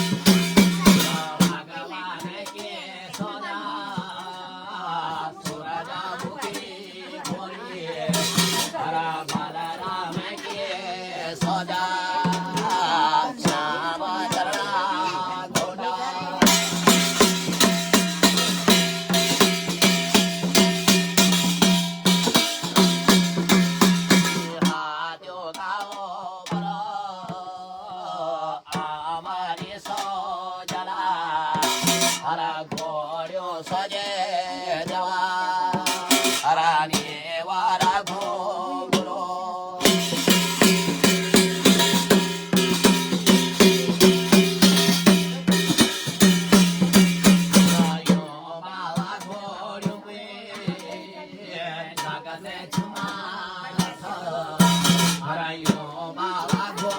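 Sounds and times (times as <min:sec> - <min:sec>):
man singing: 0:00.0 - 0:03.5, 0:04.1 - 0:17.7, 0:23.0 - 0:46.2, 0:46.8 - 0:56.9
drum strokes: 0:00.0 - 0:24.9, 0:25.6 - 0:27.4, 0:28.7 - 0:56.9.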